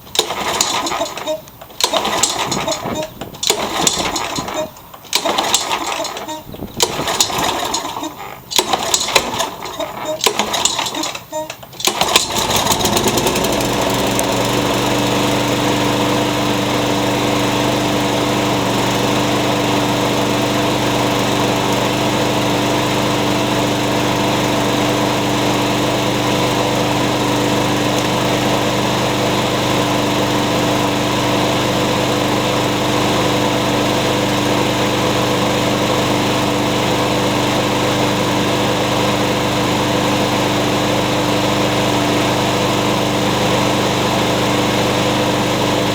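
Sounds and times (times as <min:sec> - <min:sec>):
lawn mower engine starting and running: 0:00.0 - 0:45.9.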